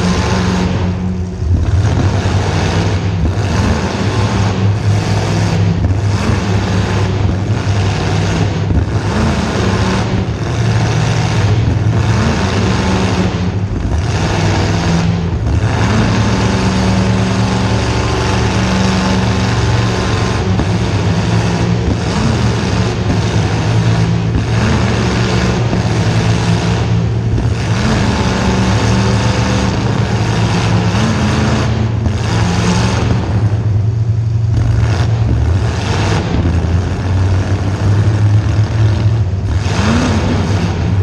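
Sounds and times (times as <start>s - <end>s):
car engine running and revving: 0.0s - 41.0s.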